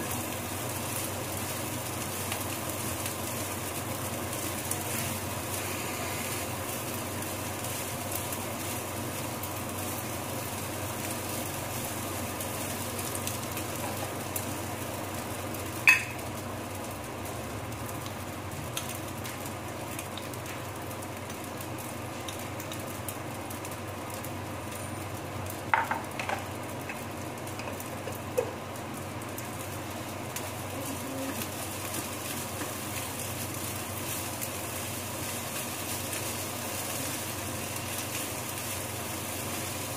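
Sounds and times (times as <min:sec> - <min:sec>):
rice sizzling in a skillet: 0:00.0 - 0:39.9.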